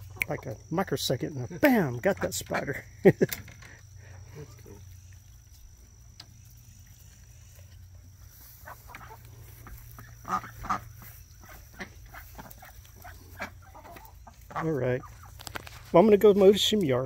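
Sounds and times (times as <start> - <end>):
ducks and chickens calling: 0.0 - 0.7, 1.4 - 3.0, 3.6 - 16.8
steady low hum: 0.0 - 17.0.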